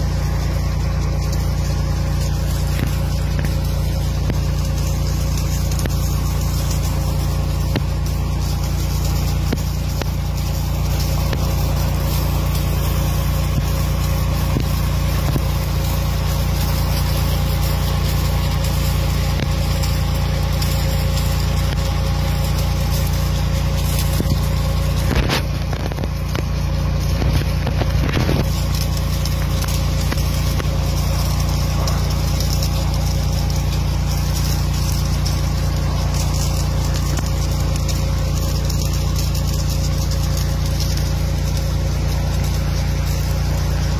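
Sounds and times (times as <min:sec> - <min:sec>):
engine droning: 0:00.0 - 0:43.9.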